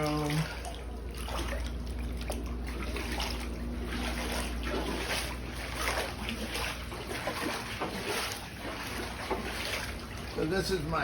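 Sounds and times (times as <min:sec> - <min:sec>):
footsteps wading through water: 0:00.0 - 0:11.0.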